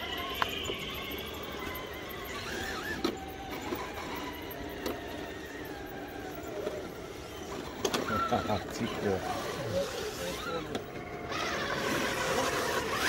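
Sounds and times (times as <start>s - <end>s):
high-pitched electric motor whine: 0.0s - 13.0s.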